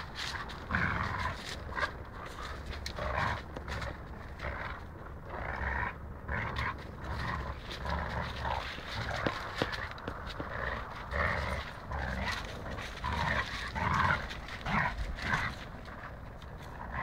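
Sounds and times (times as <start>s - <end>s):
dogs play growling: 0.0s - 17.0s.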